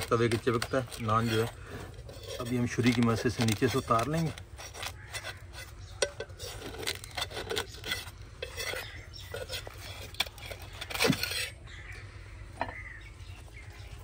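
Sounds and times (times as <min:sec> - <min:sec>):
knife scraping metal griddle: 0:00.0 - 0:11.6.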